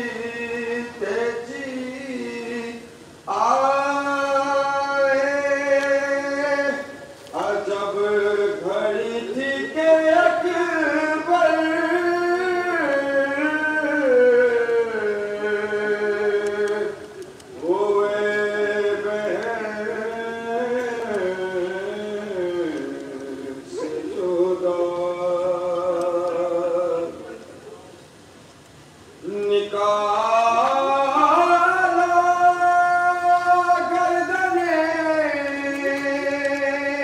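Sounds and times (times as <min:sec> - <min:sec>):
man chanting religious recitation: 0:00.0 - 0:28.0, 0:29.2 - 0:37.0.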